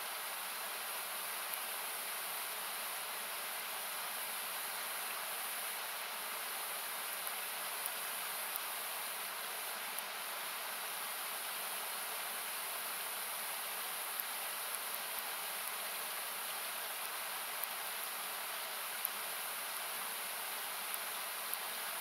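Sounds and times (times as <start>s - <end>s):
faint campfire crackles: 0.0s - 22.0s.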